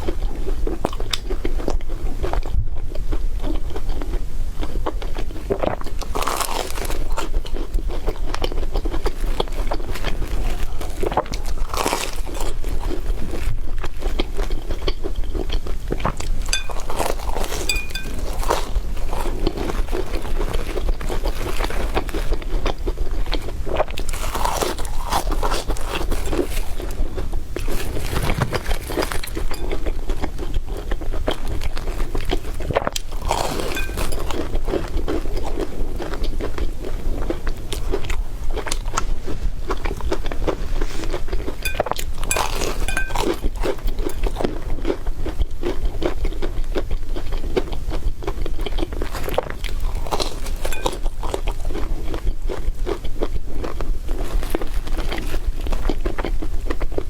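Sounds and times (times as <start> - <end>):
crunching crispy bread: 0.0 - 57.0.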